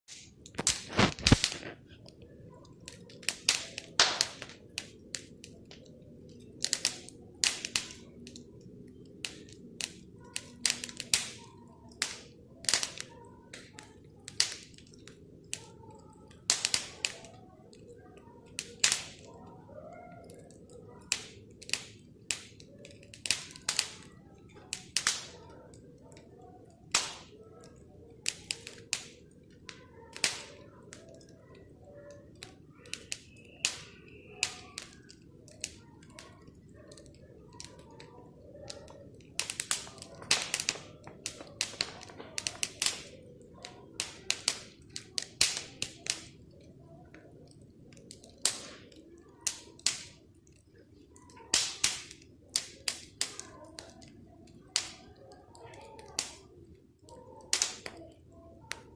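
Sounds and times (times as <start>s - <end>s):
bonfire crackling and popping: 0.0s - 58.9s
low rumble of flames: 0.1s - 56.7s.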